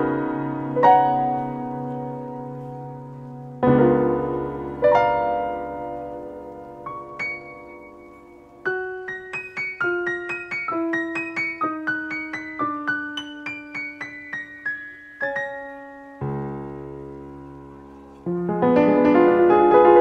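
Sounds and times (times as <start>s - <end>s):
slow solo piano music: 0.0s - 20.0s.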